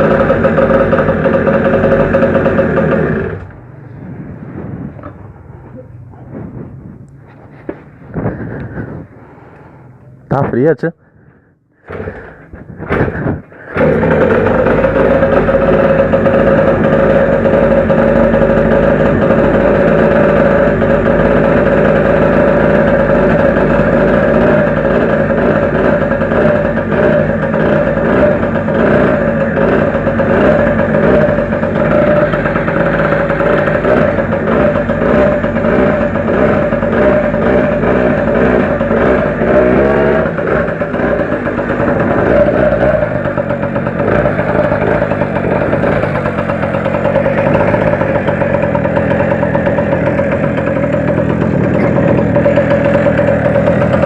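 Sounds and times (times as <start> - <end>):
moped engine idling: 0.0 - 10.4, 11.0 - 54.0.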